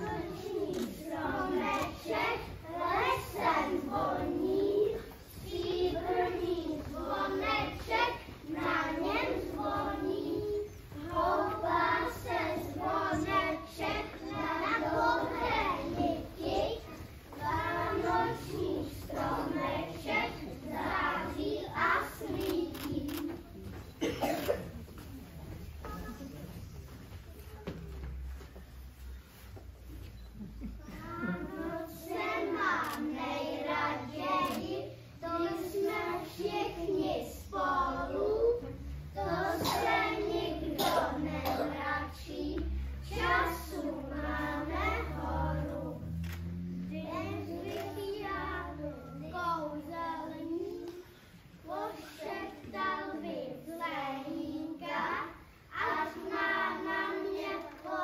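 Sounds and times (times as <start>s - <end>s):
children singing together: 0.0s - 24.6s, 30.4s - 58.0s.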